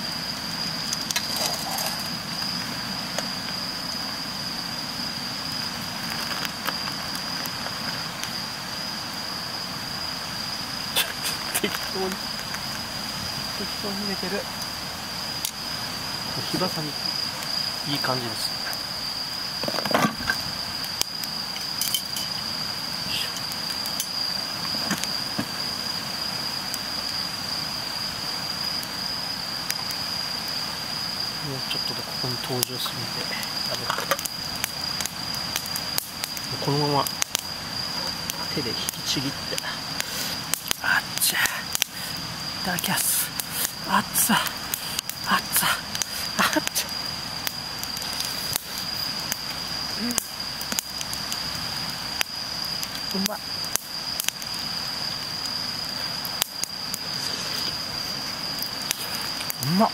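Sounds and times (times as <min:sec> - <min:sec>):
campfire crackling: 0:00.0 - 0:59.9
high insect trill: 0:00.0 - 0:59.9.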